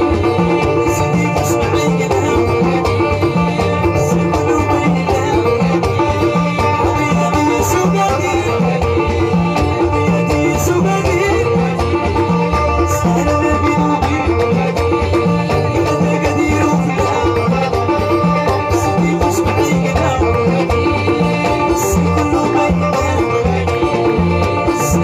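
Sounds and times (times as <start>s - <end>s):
banjo playing: 0.0s - 25.0s
repeating bass pattern: 0.0s - 25.0s.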